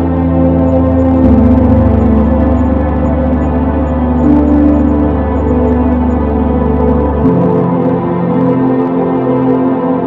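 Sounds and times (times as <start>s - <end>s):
deep bass: 0.0s - 10.0s
organ-like drone: 0.0s - 10.0s.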